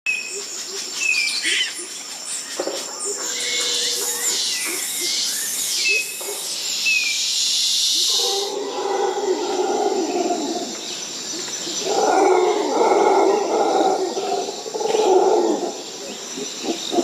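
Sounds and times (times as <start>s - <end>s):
wild animal and bird calls: 0.3s - 7.2s, 7.9s - 17.0s
steady high hiss: 0.5s - 17.0s.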